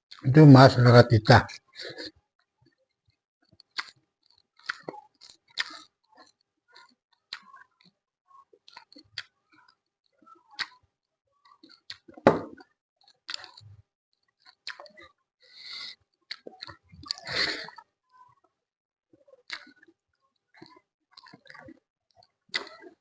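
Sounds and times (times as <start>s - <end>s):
chewing and crunching food: 2.0s - 23.0s.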